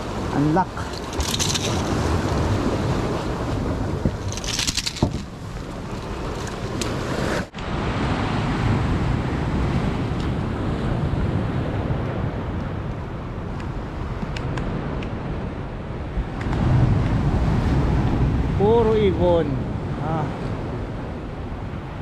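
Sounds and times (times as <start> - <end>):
sea waves washing against rocks: 0.0 - 22.0
wind buffeting microphone: 0.0 - 22.0.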